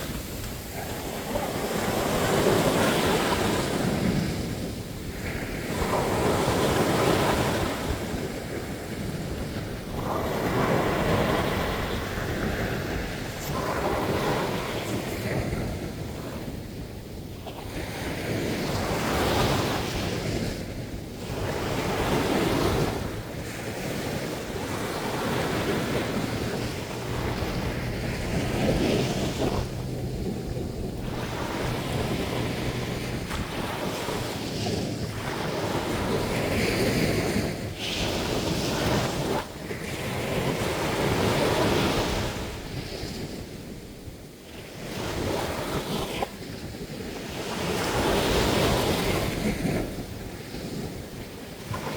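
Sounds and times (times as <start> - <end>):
surf breaking on a beach: 0.0 - 51.9.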